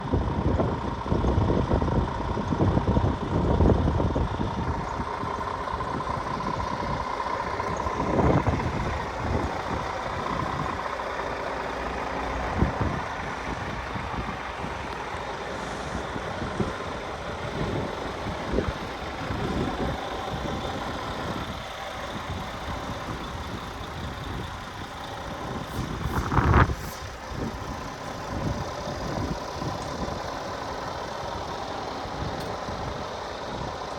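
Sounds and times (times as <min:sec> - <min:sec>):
diesel truck engine rumbling: 0:00.0 - 0:33.9.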